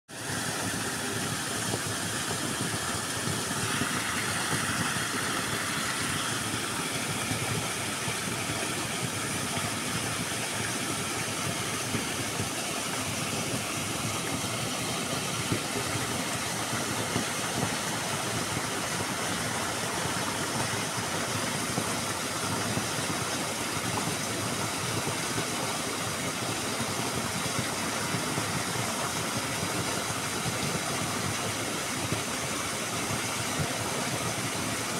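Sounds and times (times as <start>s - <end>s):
waterfall splashing into pool: 0.1s - 34.9s.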